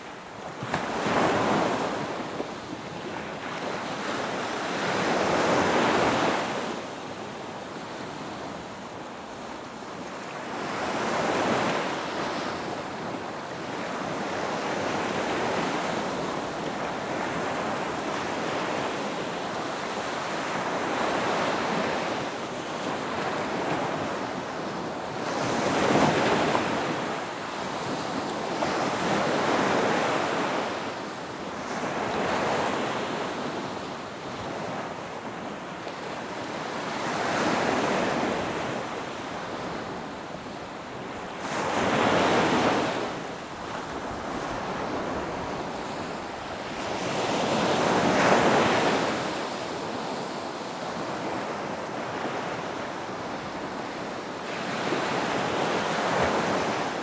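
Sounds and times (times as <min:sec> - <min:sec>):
ocean surf breaking on beach: 0:10.3 - 0:57.0.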